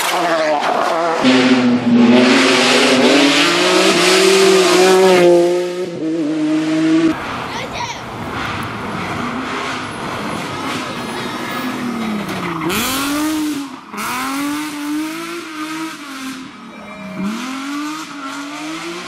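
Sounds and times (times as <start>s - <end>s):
rally car engine revving: 0.0s - 7.5s, 8.1s - 19.0s.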